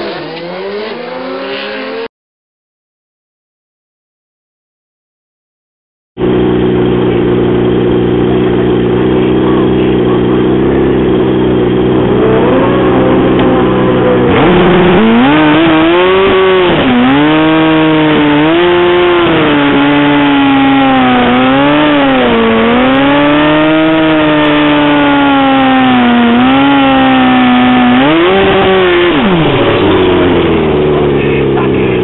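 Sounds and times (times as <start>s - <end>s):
motorcycle engine at high revs: 0.0s - 2.1s, 6.2s - 32.0s.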